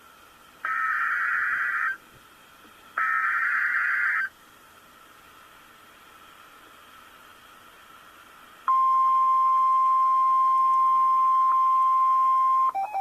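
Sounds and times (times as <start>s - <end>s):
faint steady tone: 0.0s - 13.0s.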